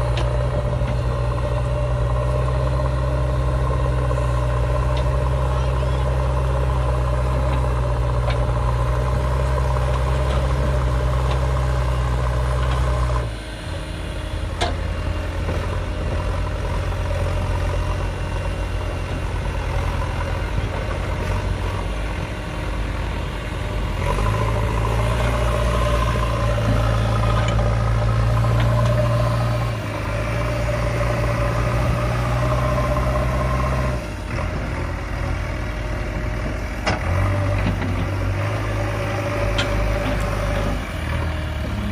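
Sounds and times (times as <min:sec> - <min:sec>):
diesel engine under load: 0:00.0 - 0:41.9.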